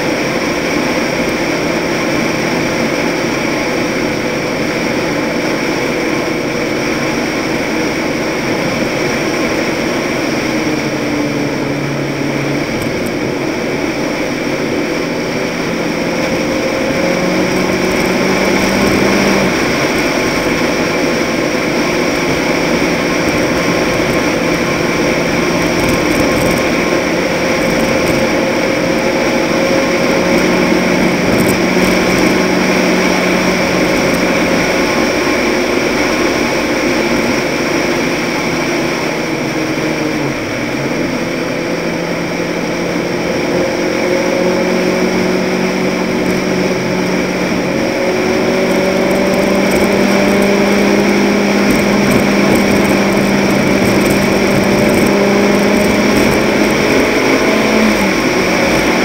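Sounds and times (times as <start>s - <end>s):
wind and tyres on asphalt: 0.0s - 59.0s.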